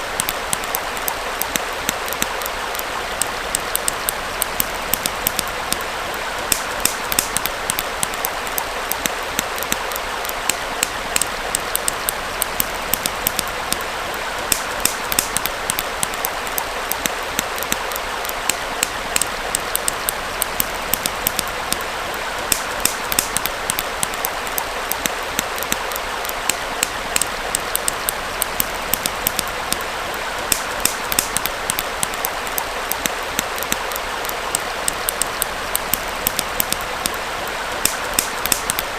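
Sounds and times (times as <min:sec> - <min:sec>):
campfire crackling and popping: 0:00.0 - 0:38.9
stream flowing: 0:00.0 - 0:38.9.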